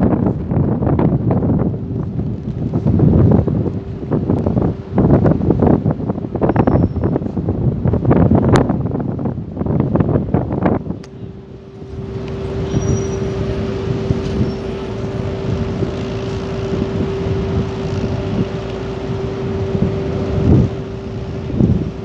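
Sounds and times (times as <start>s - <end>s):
diesel engines running: 0.0s - 22.0s
wind buffeting microphone: 0.0s - 22.0s.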